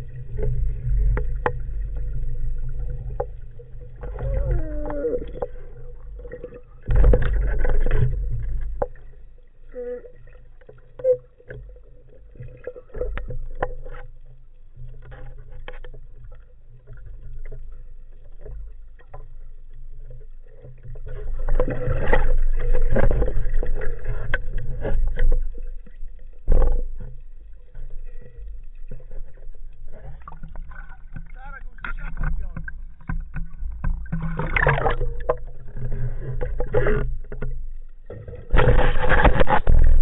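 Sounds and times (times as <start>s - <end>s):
underwater clicks and knocks: 0.0s - 9.4s, 10.2s - 40.0s
underwater low rumble: 0.0s - 40.0s.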